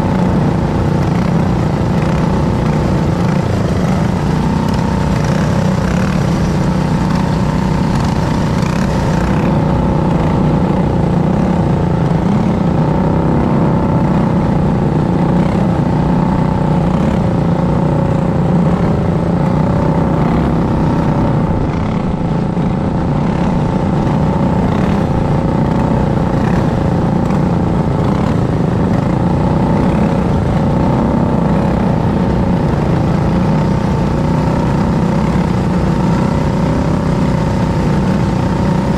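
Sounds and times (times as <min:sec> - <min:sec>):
kart engine at high revs: 0:00.0 - 0:38.9.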